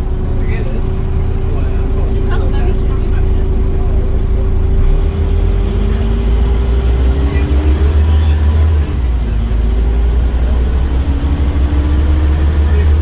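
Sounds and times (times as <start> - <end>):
bus engine accelerating: 0.0 - 13.0
rising drivetrain whine: 0.0 - 13.0.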